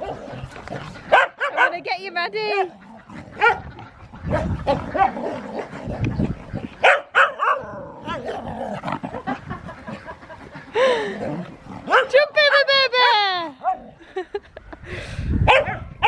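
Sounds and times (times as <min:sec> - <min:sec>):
dogs barking: 0:00.0 - 0:10.8, 0:11.8 - 0:14.0, 0:15.4 - 0:16.0.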